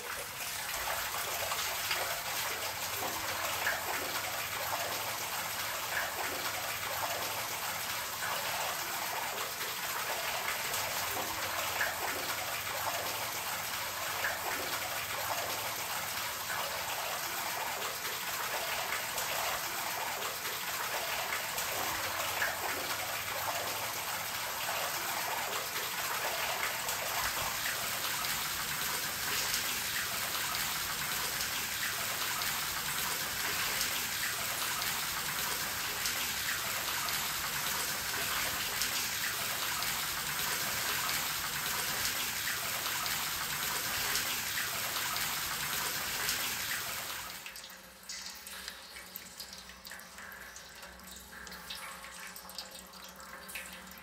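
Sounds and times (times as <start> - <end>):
water dripping: 0.0 - 54.0
water trickling into drain: 0.0 - 54.0.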